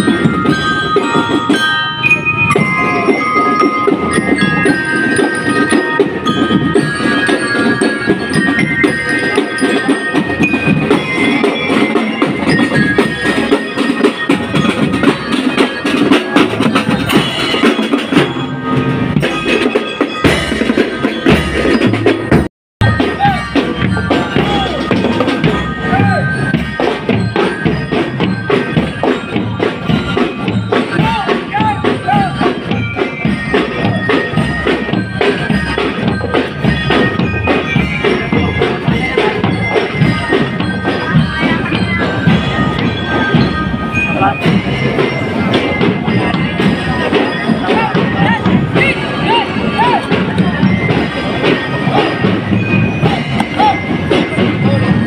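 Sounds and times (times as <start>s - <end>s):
bass drums: 0.0s - 55.0s
bell lyres melody: 0.0s - 55.0s
snare drums: 0.0s - 55.0s.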